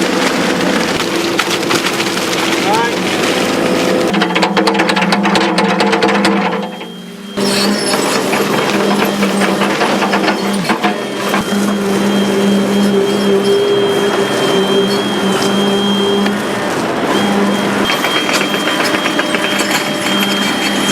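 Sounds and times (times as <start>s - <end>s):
machine engine humming and clattering: 0.0s - 20.9s.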